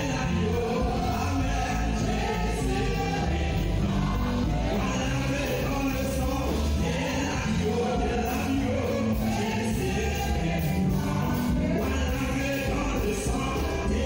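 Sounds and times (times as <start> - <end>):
choir singing held notes: 0.0 - 14.0
steady bass: 0.0 - 14.0.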